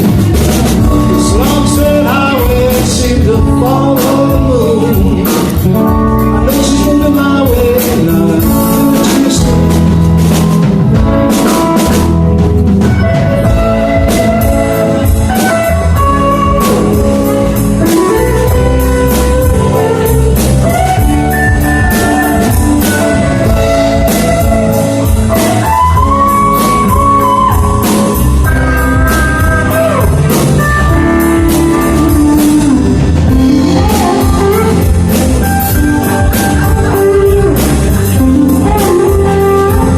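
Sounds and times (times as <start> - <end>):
drum kit beat: 0.0 - 39.9
lead guitar line bending notes: 0.0 - 39.9
live blues-rock band playing: 0.0 - 39.9.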